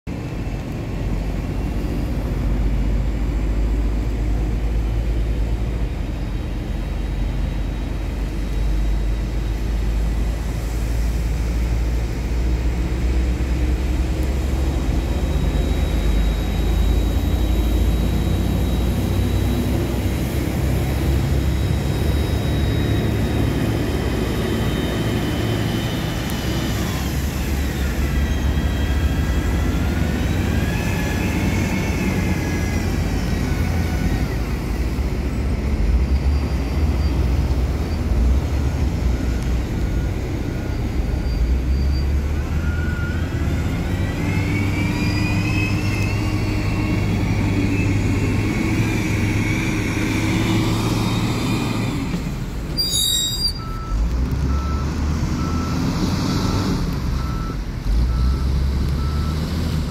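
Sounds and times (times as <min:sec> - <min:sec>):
engine whine: 0:00.1 - 0:59.9
heavy diesel engine rumble: 0:00.1 - 0:59.9.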